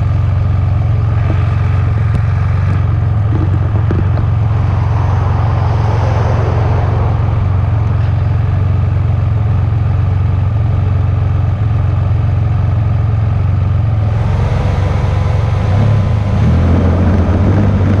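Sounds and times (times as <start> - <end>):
loud low rumble: 0.0 - 18.0.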